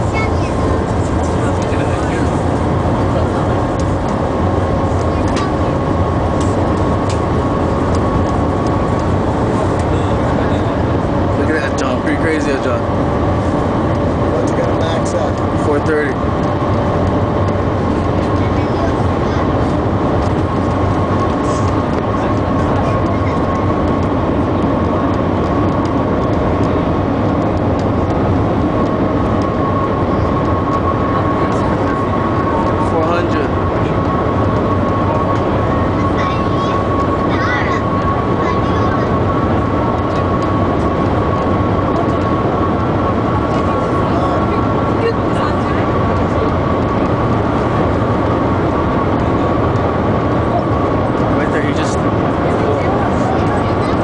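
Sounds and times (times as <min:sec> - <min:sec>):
thin steady whine: 0:00.0 - 0:54.0.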